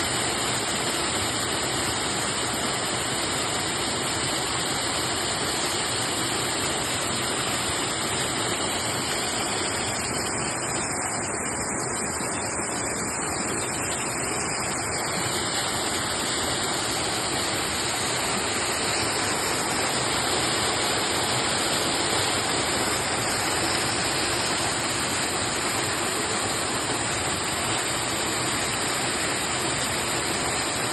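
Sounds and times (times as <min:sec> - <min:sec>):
waterfall pouring: 0:00.0 - 0:30.9.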